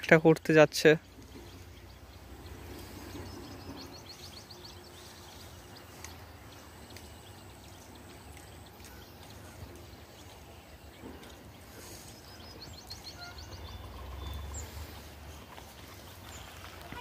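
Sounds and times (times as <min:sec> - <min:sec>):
low steady rumble: 0:01.0 - 0:17.0.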